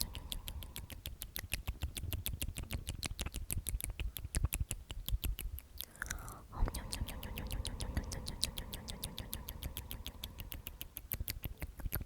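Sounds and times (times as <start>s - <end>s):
tongue clicks: 0.0s - 12.0s
wet lip smacks: 0.0s - 12.0s.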